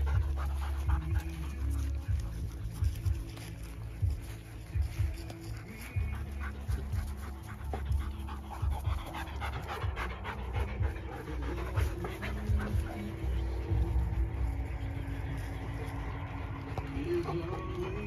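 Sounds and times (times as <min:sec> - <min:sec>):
dog panting: 0:00.0 - 0:18.0
low uneven rumble: 0:00.0 - 0:18.0
soft music: 0:00.0 - 0:18.0.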